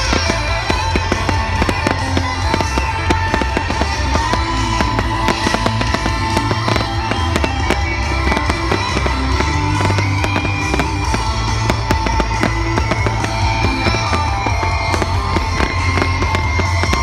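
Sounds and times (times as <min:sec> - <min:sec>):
fireworks popping and banging: 0:00.0 - 0:17.0
music: 0:00.0 - 0:17.0.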